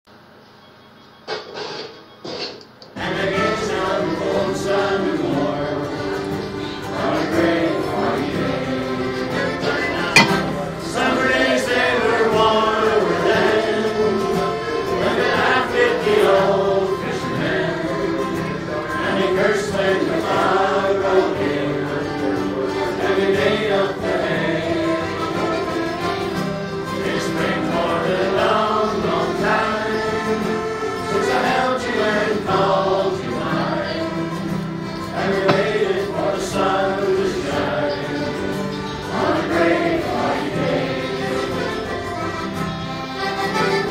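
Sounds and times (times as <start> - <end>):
acoustic guitar: 1.2 - 43.9
people singing along: 3.0 - 42.6
accordion: 3.0 - 43.9.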